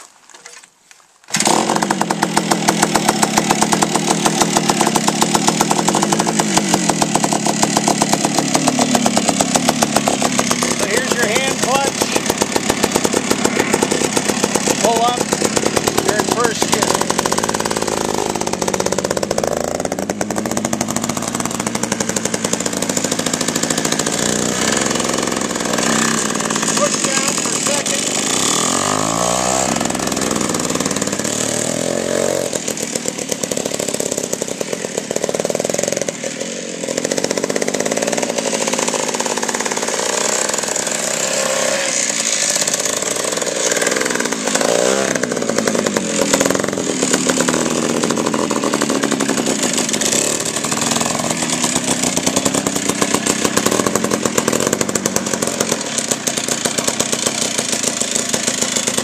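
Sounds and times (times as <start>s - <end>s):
minibike two-stroke engine revving: 1.3s - 59.0s.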